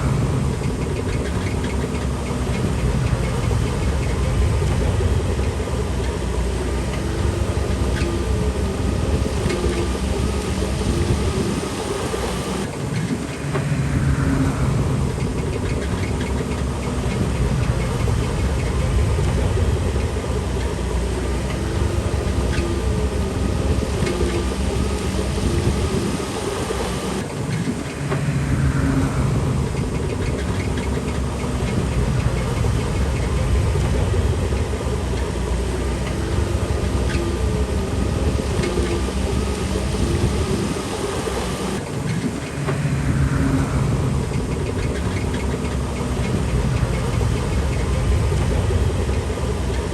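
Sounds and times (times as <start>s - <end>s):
bulldozer diesel engine running: 0.0s - 49.9s
falling whine: 0.0s - 49.9s
tracks clattering: 0.0s - 49.9s.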